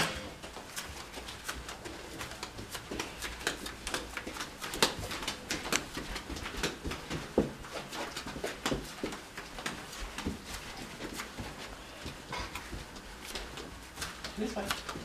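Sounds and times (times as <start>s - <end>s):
flip-flop footsteps slapping: 0.0s - 15.0s.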